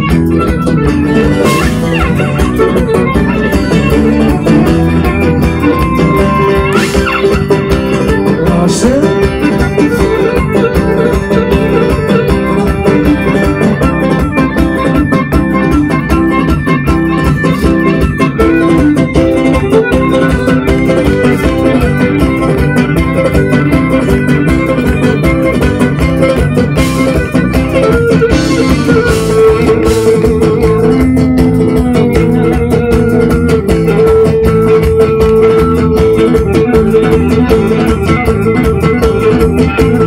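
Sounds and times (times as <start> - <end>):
held melody line: 0.0 - 40.0
strummed lutes folk dance music: 0.0 - 40.0.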